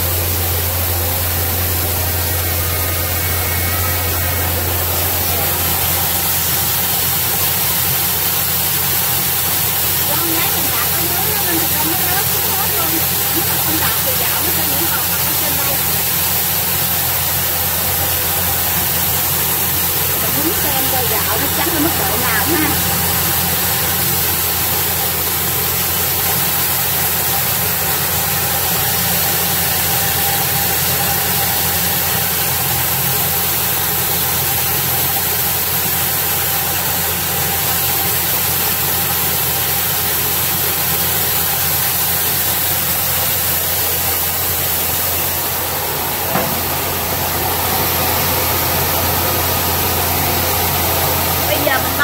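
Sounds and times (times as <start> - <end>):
machine motor hum: 0.0 - 52.0
rice pouring out of chute: 0.0 - 52.0
steady hiss: 0.0 - 52.0.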